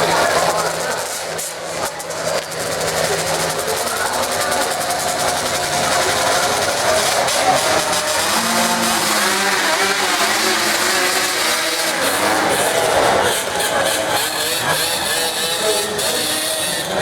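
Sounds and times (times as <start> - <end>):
racing engines revving: 0.0 - 17.0.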